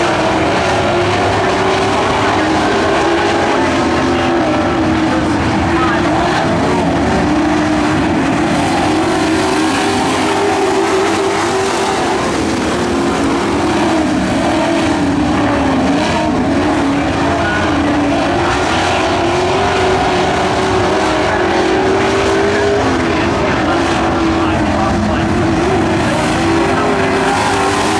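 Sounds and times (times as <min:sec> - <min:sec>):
racing truck engines: 0:00.0 - 0:27.9.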